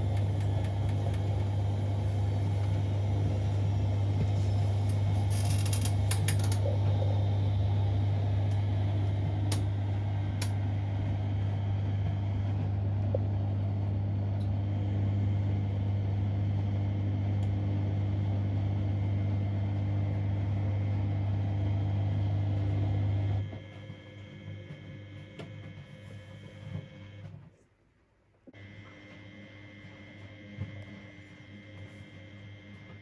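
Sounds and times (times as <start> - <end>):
washing machine humming: 0.0 - 27.3.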